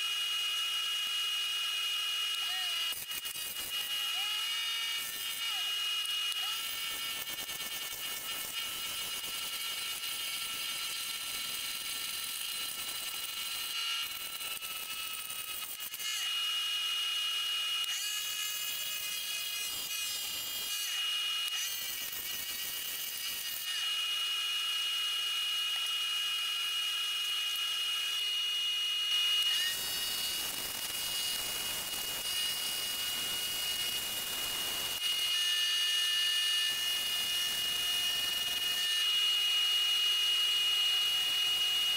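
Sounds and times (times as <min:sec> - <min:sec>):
chisel cutting spinning wood: 0:00.0 - 0:41.9
wood lathe whining: 0:00.0 - 0:41.9.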